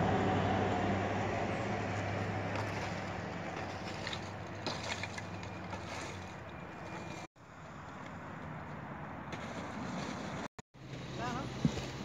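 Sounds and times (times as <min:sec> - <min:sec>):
outdoor rushing hum: 0:00.0 - 0:12.0.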